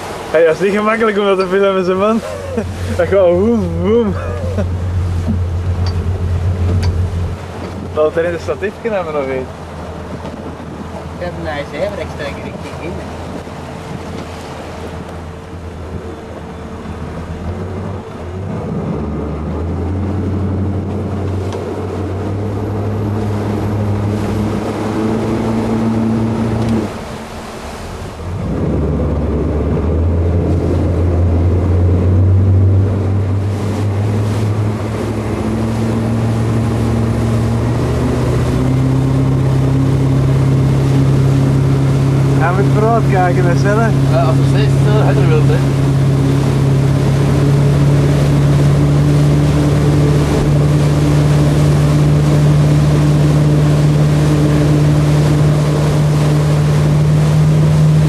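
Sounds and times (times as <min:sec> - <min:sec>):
boat engine humming: 0:00.0 - 0:58.0
churning wake rushing: 0:00.0 - 0:58.0
wind on microphone: 0:00.0 - 0:58.0.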